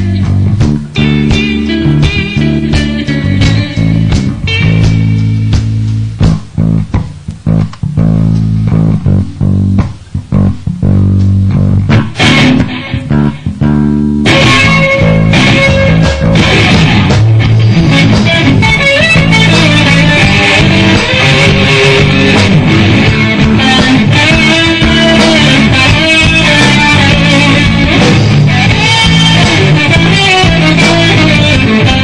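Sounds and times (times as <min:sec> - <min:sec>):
bass guitar: 0:00.0 - 0:32.0
drums: 0:00.0 - 0:32.0
electric guitar lead line: 0:00.0 - 0:32.0.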